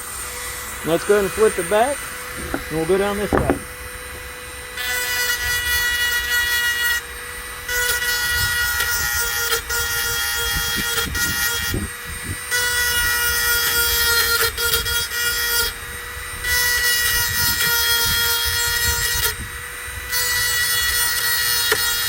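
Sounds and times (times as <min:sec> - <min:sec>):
power sharpener grinding metal: 0:00.0 - 0:22.0.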